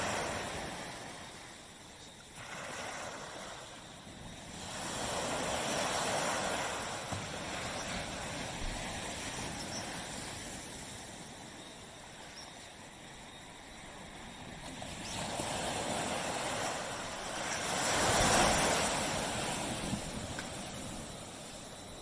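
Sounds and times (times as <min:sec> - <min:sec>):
surf washing on beach: 0:00.0 - 0:22.0.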